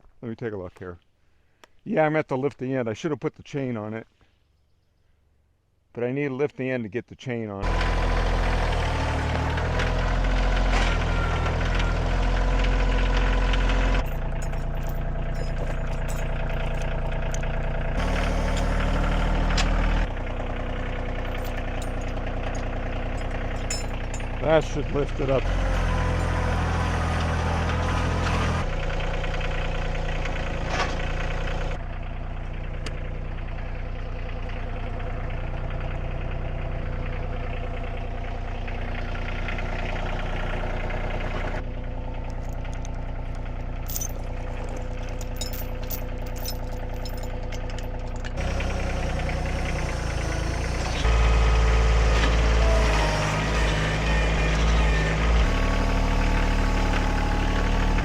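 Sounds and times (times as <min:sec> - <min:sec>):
tractor engine running: 0:07.6 - 0:58.0.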